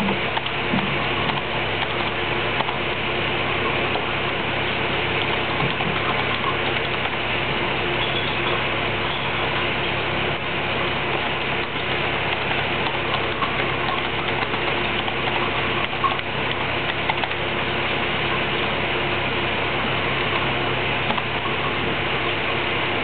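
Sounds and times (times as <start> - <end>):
steady machine hum with hiss: 0.0 - 23.0.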